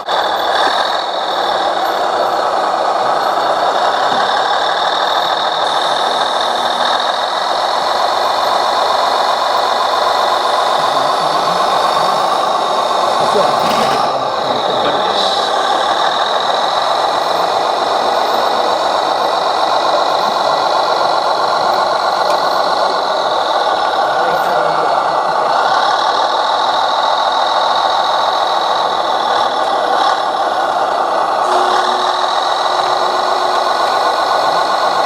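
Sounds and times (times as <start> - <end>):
high whine: 0.0 - 25.4, 26.2 - 35.0
model truck motor running: 0.0 - 35.0.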